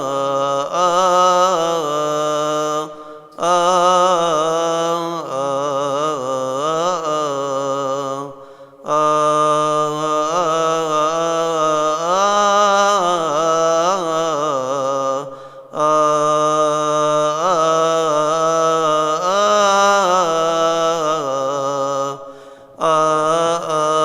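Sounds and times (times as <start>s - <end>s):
man chanting a hymn: 0.0s - 24.0s.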